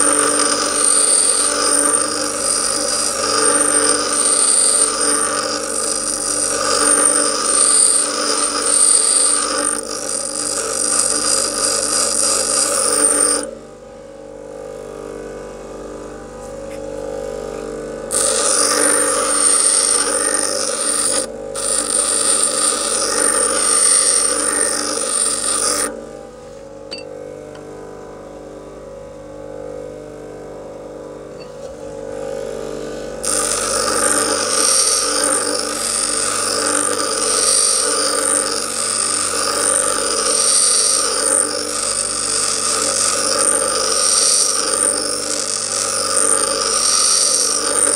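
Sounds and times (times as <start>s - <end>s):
grinding wheel on steel: 0.0s - 13.6s, 17.5s - 26.3s, 26.9s - 27.1s, 31.4s - 47.9s
grinder motor hum: 0.0s - 47.9s.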